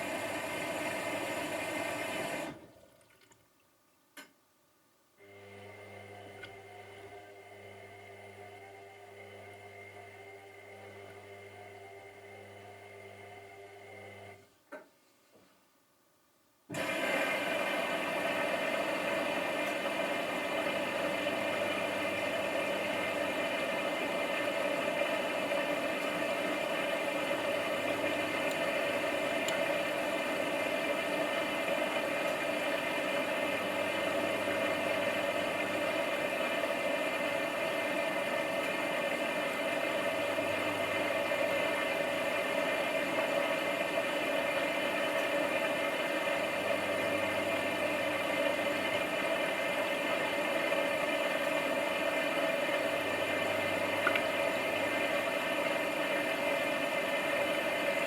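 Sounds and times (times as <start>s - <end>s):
washing machine running: 0.0s - 3.1s, 5.2s - 14.4s, 16.7s - 58.0s.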